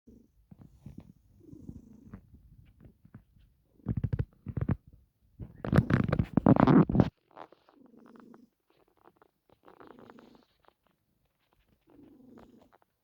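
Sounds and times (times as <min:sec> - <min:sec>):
cat purring: 0:00.1 - 0:13.0.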